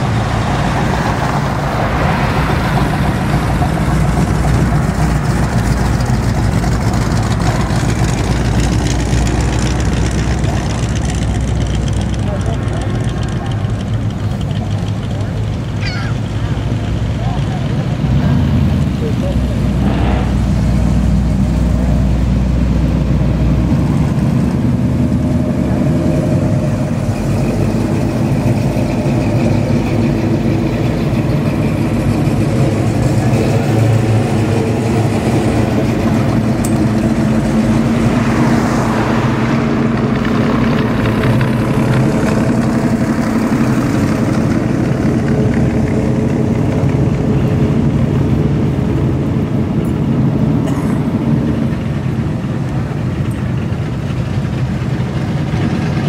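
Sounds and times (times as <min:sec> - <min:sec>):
cars driving past: 0:00.0 - 0:56.0.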